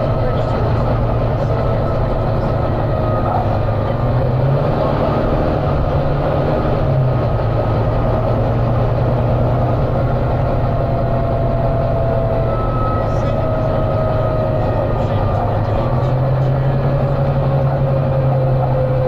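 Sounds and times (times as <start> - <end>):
bus diesel engine drone: 0.0 - 19.0
road and body noise: 0.0 - 19.0.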